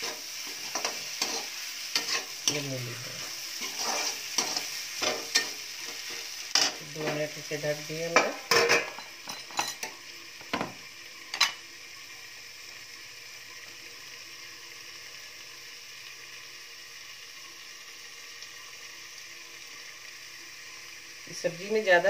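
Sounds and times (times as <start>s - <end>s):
food sizzling softly: 0.0s - 22.0s.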